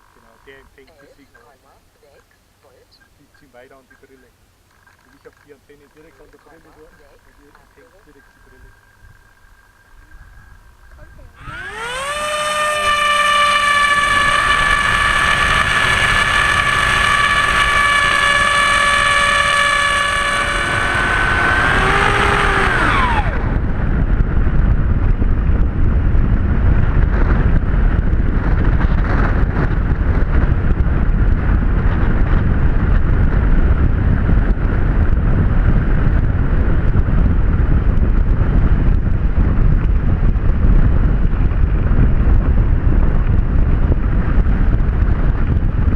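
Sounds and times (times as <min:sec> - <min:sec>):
wind noise: 0:00.0 - 0:45.9
electric motor and propeller whine: 0:04.0 - 0:45.9.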